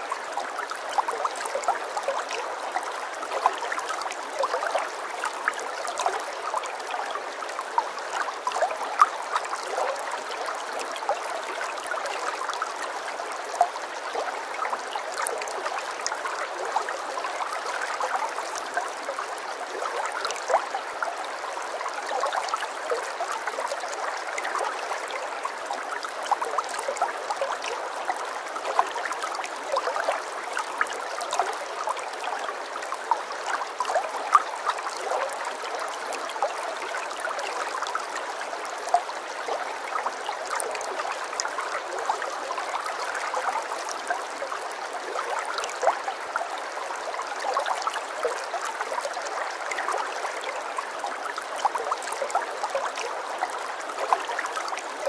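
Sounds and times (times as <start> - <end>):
water trickling and gurgling: 0.0 - 55.0.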